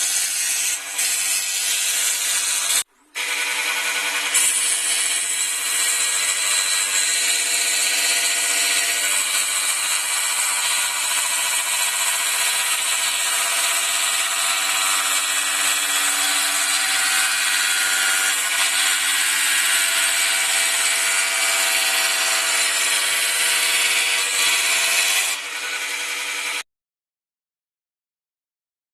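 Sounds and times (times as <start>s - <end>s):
scroll saw cutting wood: 0.0s - 26.7s.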